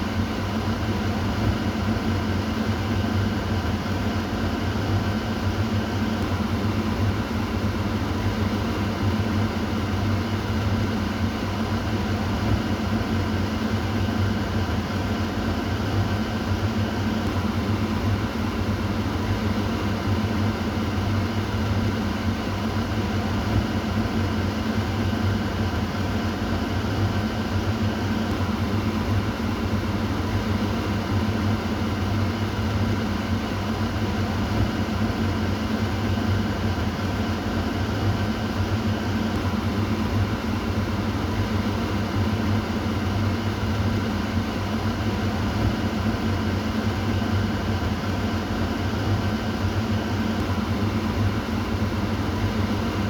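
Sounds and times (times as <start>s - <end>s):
kitchen exhaust fan running: 0.0s - 53.0s.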